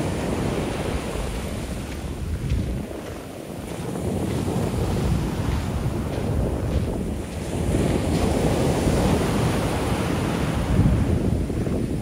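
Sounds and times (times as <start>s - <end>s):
ocean waves breaking: 0.0s - 12.0s
wind buffeting microphone: 0.0s - 12.0s.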